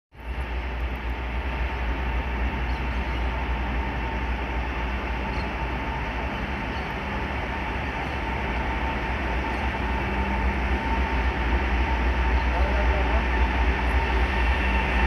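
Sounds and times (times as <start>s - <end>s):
locomotive rumble: 0.2s - 15.0s
thin steady whine: 0.2s - 15.0s.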